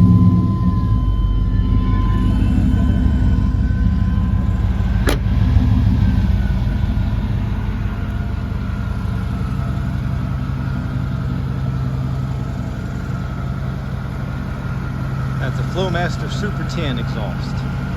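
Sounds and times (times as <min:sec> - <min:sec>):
truck engine idling: 0:00.0 - 0:17.9.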